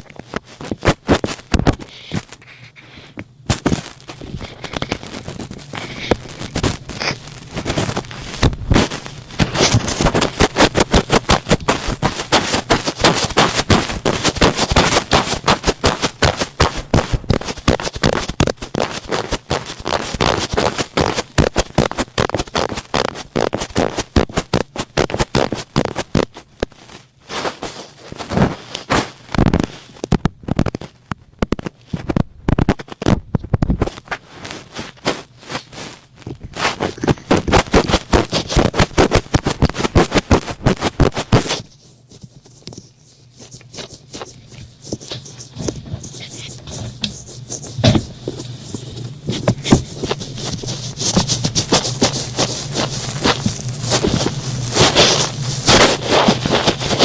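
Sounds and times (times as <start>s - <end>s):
cotton swab rubbing on microphone: 0.0s - 30.0s, 33.8s - 57.0s.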